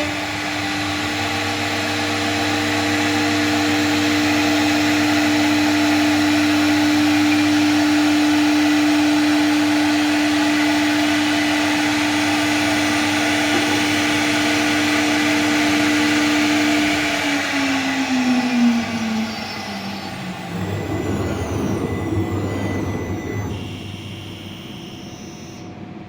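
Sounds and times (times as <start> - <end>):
router spindle whine: 0.0 - 25.9.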